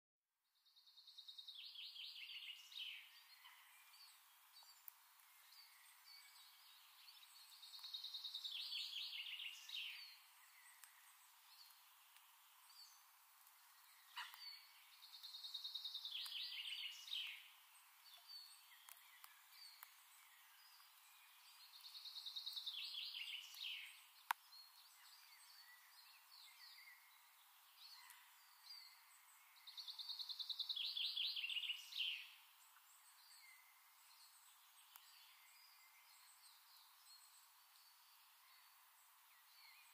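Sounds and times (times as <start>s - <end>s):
soft bird chirps: 0.5s - 39.9s.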